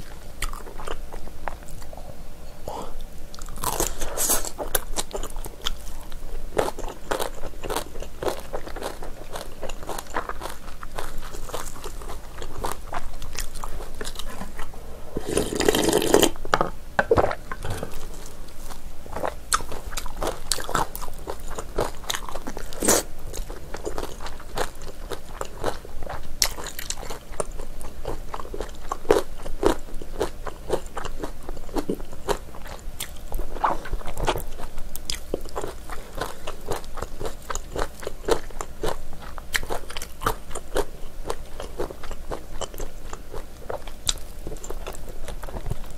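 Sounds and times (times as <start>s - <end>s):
close chewing and biting: 0.0s - 2.0s, 3.4s - 14.7s, 17.2s - 45.9s.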